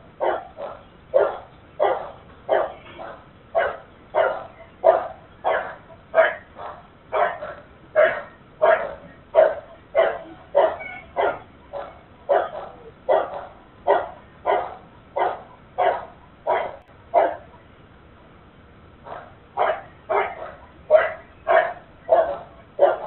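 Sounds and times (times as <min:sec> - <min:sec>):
dog barking: 0:00.2 - 0:17.5, 0:19.1 - 0:23.0.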